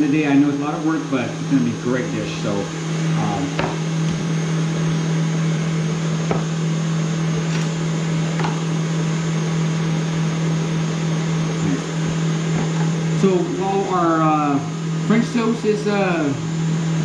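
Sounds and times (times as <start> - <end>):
stand mixer motor running: 0.0 - 17.0.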